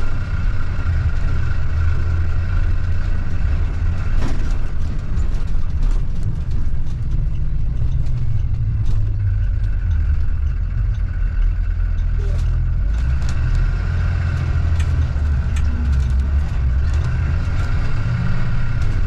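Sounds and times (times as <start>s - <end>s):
low bus engine rumble: 0.0s - 19.0s.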